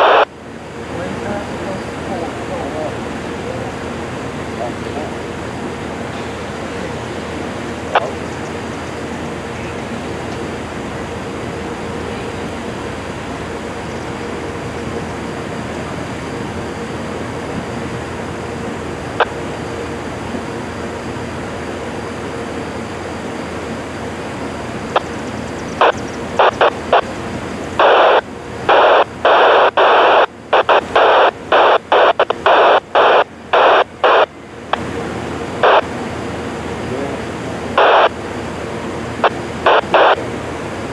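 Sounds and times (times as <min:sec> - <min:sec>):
choppy radio transmission: 0:00.0 - 0:40.9
radio static hiss: 0:00.0 - 0:40.9.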